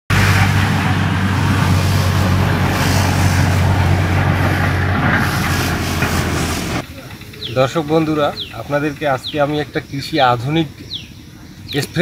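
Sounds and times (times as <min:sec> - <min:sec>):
electric pump humming: 0:00.1 - 0:11.5.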